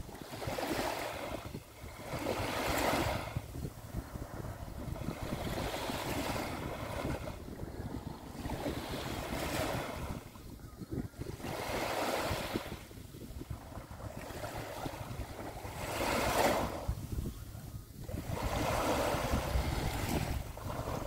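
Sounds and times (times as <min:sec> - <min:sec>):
small waves washing on sand: 0:00.0 - 0:21.0
wind rumble on microphone: 0:00.0 - 0:21.0.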